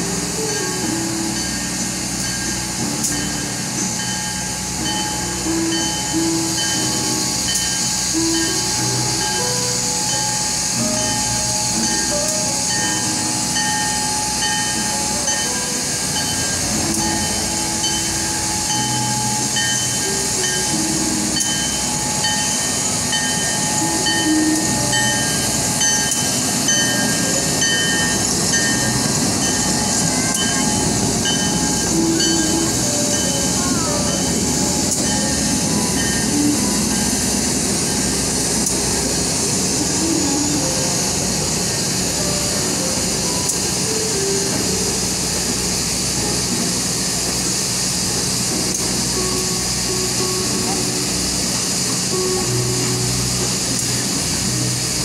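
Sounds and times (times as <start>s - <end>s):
diesel locomotive engine running: 0.0s - 55.0s
wheels rumbling on rails: 0.0s - 55.0s.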